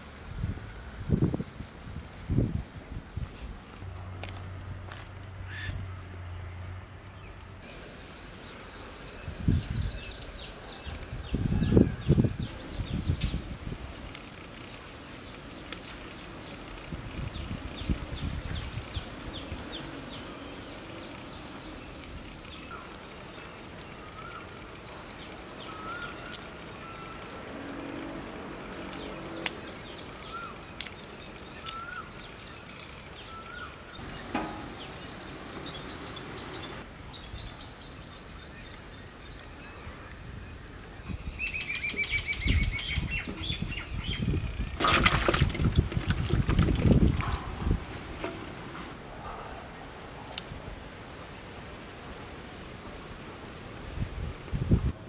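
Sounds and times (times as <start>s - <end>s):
small birds chirping: 5.5s - 49.9s.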